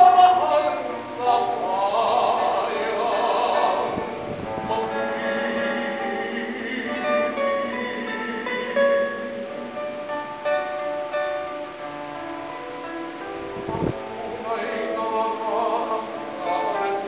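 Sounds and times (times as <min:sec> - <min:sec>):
classical guitar plucking: 0:00.0 - 0:17.0
tenor singing with vibrato: 0:00.0 - 0:17.0.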